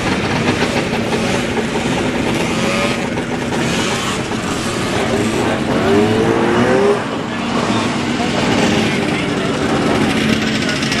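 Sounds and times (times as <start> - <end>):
snowmobile engine revving: 0.0 - 11.0
snowmobile engines running: 0.0 - 11.0.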